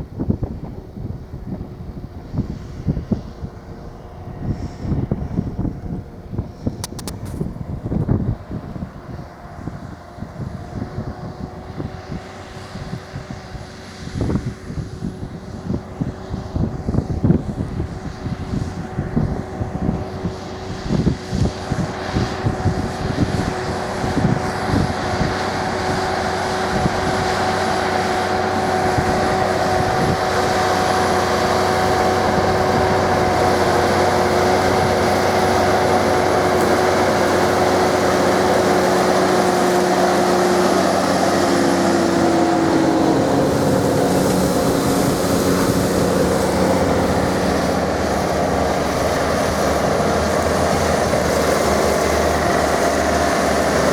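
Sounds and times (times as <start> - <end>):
tractor engines droning: 0.0 - 53.9
wind buffeting microphone: 0.0 - 53.9.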